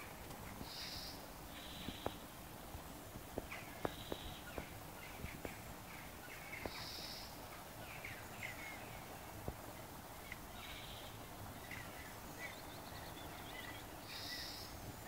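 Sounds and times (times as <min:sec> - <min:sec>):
background hiss: 0:00.0 - 0:15.0
birds chirping: 0:00.0 - 0:15.0.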